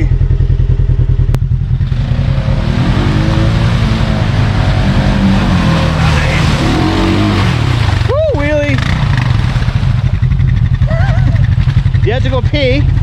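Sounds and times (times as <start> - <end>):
off-road vehicle engine accelerating: 0.0 - 13.0.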